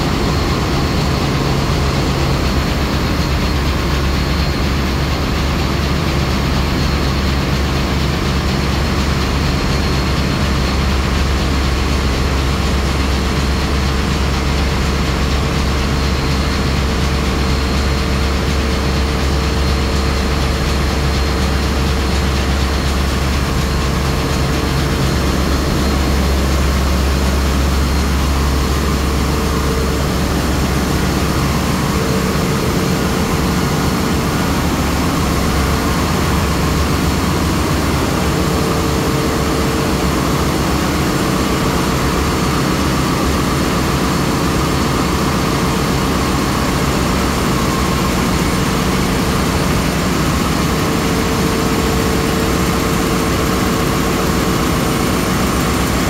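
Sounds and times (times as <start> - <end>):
diesel engine room din: 0.0 - 56.0.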